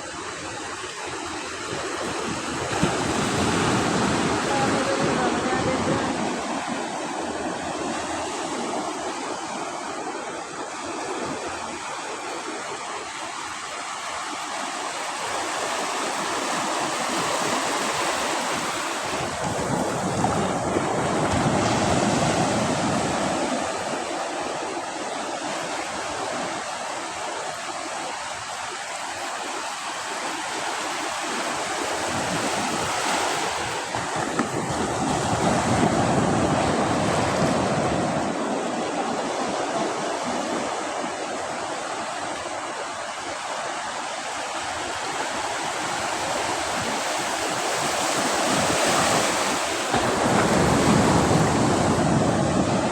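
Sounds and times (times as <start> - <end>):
sea waves washing onto beach: 0.0 - 52.9.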